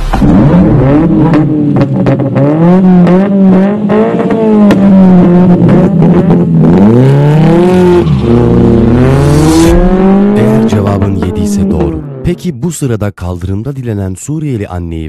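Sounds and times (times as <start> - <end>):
sports car engines revving: 0.0 - 12.4.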